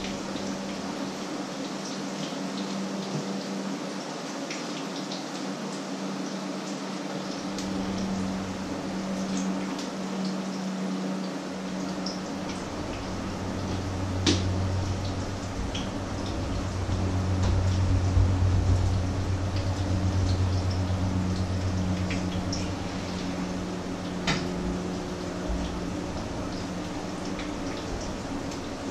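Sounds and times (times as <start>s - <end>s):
low steady hum: 0.0s - 4.0s, 5.8s - 28.9s.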